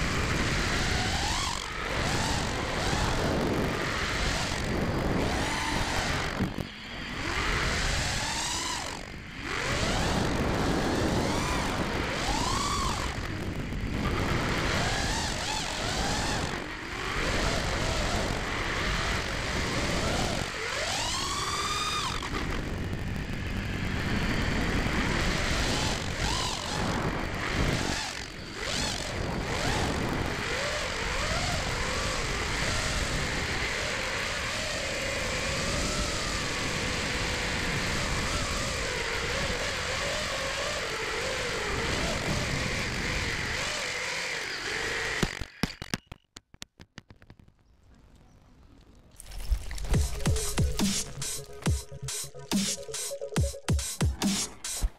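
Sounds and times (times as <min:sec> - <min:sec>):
quadcopter motors buzzing whine: 0:00.0 - 0:46.3, 0:47.3 - 0:54.9.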